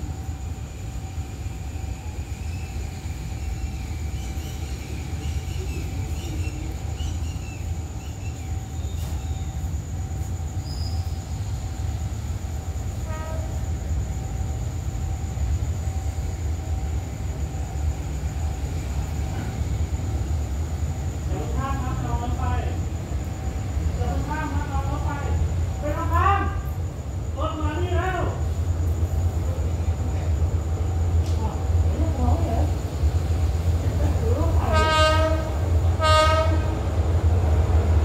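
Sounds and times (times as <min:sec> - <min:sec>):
diesel train rumble: 0:00.0 - 0:38.0.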